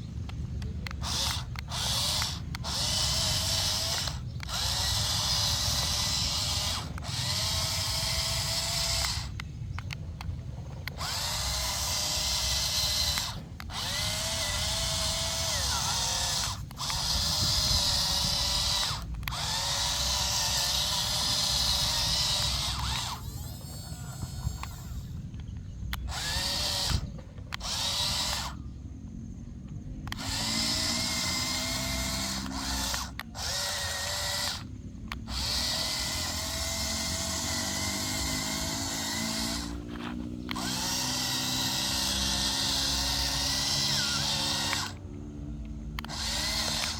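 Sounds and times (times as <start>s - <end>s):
low motor hum: 0.0s - 46.9s
toy excavator motors whining: 0.0s - 46.9s.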